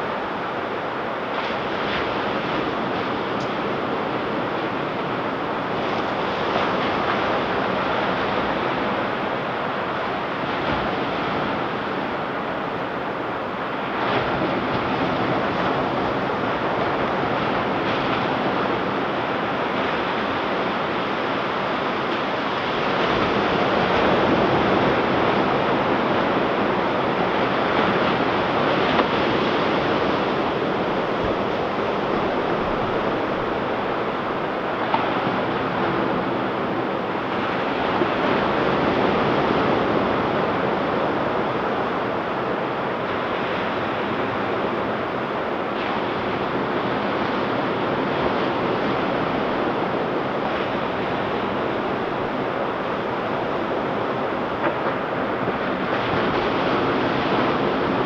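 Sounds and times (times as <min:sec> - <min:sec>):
ocean surf washing onto beach: 0:00.0 - 0:58.0
wind buffeting microphone: 0:00.0 - 0:58.0.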